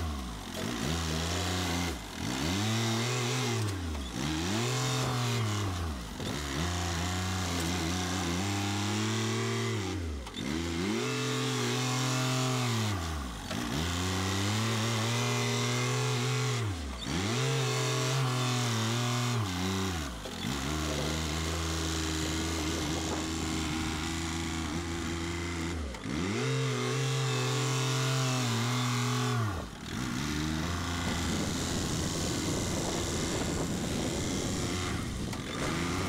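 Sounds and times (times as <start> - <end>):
tractor engine under load: 0.0 - 36.0.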